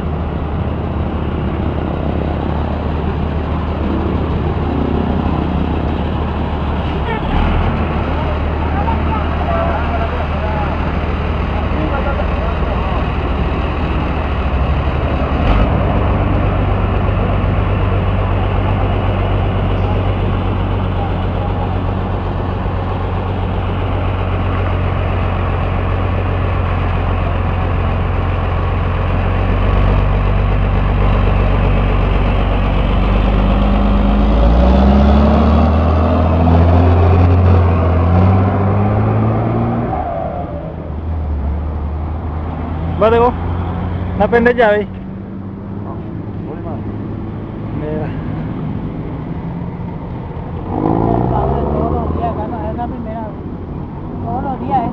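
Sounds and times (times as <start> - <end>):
large vehicle engine idling and revving: 0.0 - 54.9.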